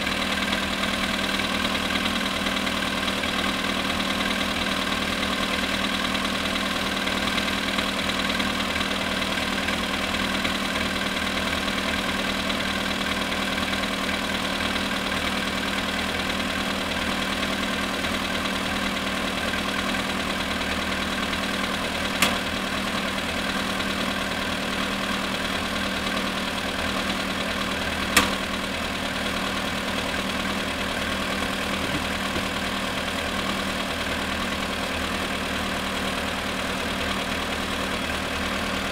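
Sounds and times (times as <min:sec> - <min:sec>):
car engine idling with knock: 0:00.0 - 0:38.9.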